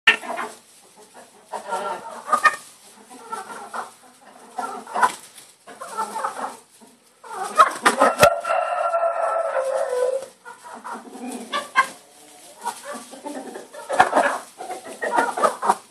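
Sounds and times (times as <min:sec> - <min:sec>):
hens calling: 0:00.1 - 0:15.9.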